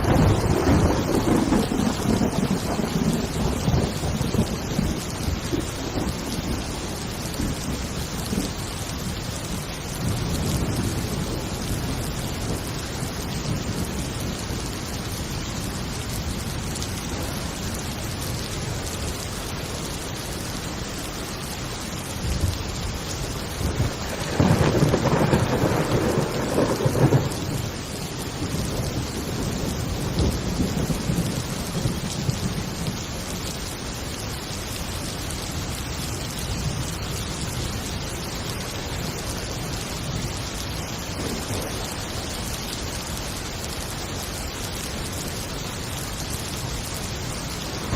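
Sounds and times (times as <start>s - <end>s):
low rolling thunder: 0.0s - 19.2s, 22.2s - 33.7s, 35.8s - 42.7s, 45.8s - 47.9s
heavy rain falling: 0.0s - 47.9s.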